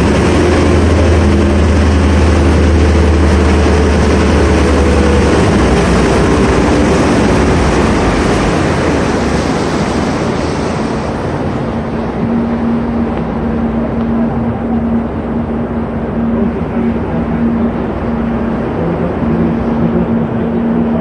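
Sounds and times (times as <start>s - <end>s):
boat engine drone: 0.0s - 21.0s
rush of churning wake: 0.0s - 21.0s
steady hum: 0.0s - 21.0s.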